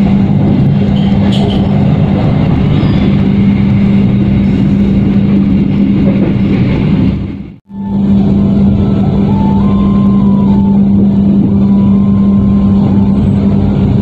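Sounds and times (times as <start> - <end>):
train rumble inside coach: 0.0 - 14.0.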